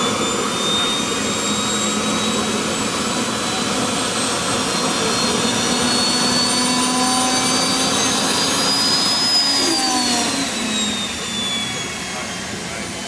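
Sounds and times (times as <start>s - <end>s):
jet turbine engine rushing and whining: 0.0s - 13.0s.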